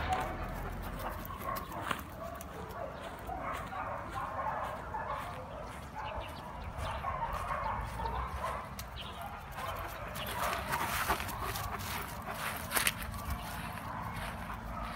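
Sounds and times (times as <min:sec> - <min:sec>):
dogs barking: 0:00.0 - 0:14.9.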